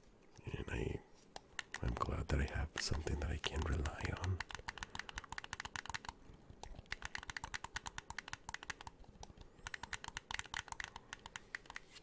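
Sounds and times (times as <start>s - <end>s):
game controller button clicks: 1.4s - 6.2s, 6.9s - 11.9s.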